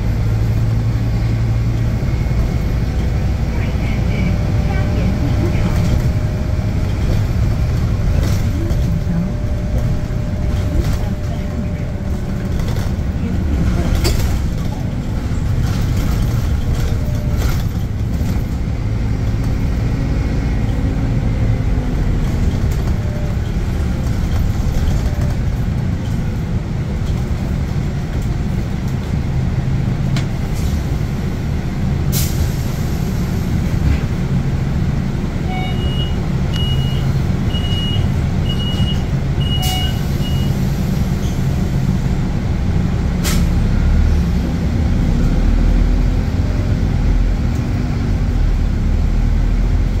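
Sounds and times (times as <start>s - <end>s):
bus engine droning: 0.0s - 50.0s.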